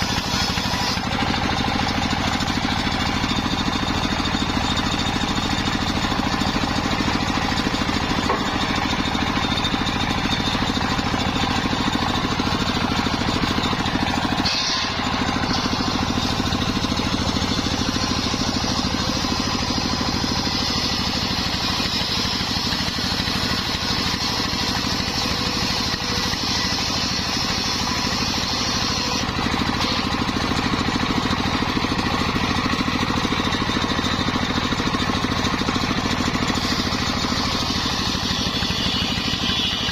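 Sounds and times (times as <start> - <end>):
saw blade whine cutting log: 0.0 - 39.9
saw rig engine drone: 0.0 - 39.9.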